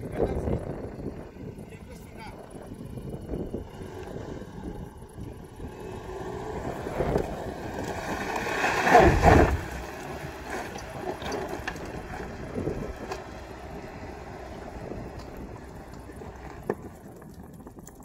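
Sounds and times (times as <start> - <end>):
suv engine pulling under load: 0.0 - 18.0
wind buffeting the microphone: 0.0 - 18.0.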